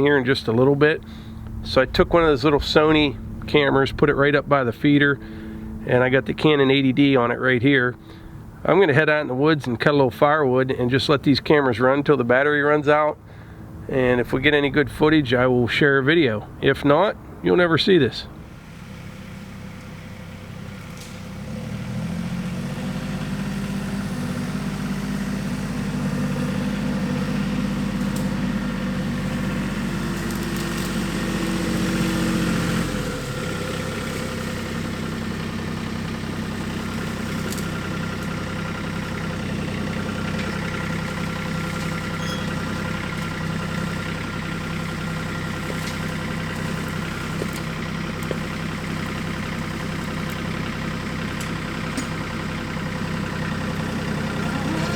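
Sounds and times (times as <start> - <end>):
vehicle engine running: 0.0 - 9.9, 17.2 - 54.9.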